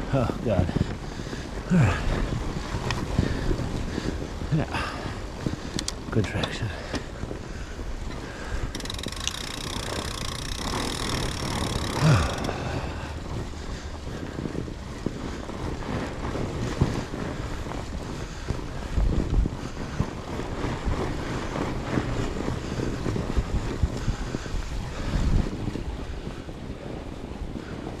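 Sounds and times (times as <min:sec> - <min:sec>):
bike rumbling along trail: 0:00.0 - 0:28.0
wind buffeting microphone: 0:00.0 - 0:28.0.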